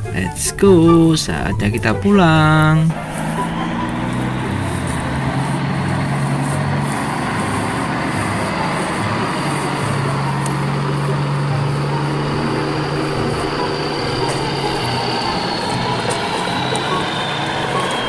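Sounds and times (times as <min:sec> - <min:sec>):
low hum changing pitch: 0:00.0 - 0:18.0
toy trucks rolling over dry grass: 0:02.1 - 0:18.0.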